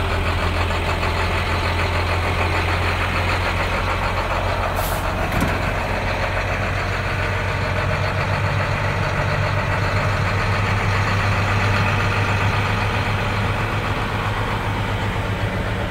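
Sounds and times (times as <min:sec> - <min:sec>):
diesel truck engine idling: 0:00.0 - 0:15.9.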